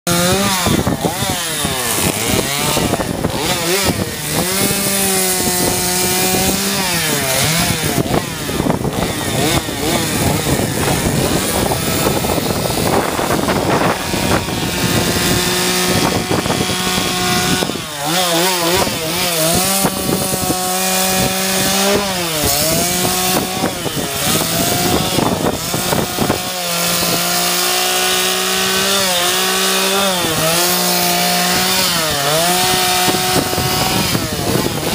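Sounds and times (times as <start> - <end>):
chainsaw revving into wood: 0.1 - 34.9.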